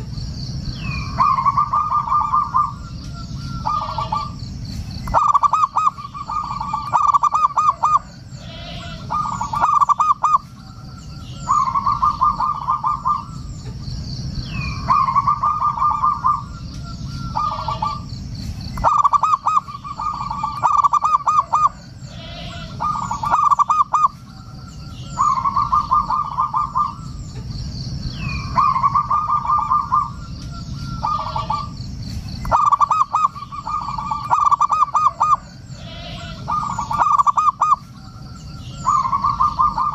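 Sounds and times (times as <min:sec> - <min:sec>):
faint high bird chirps: 0:00.0 - 0:39.9
dove cooing: 0:00.8 - 0:18.1, 0:18.7 - 0:39.9.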